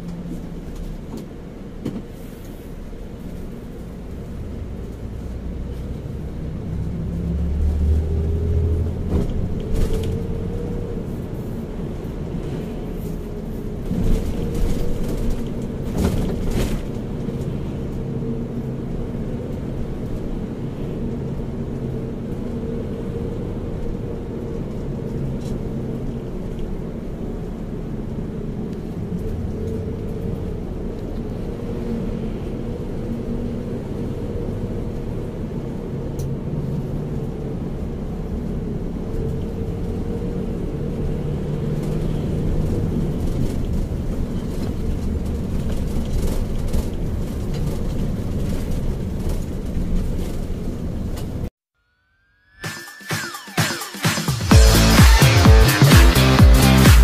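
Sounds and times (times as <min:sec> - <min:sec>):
bus engine and road rumble: 0:00.0 - 0:51.6.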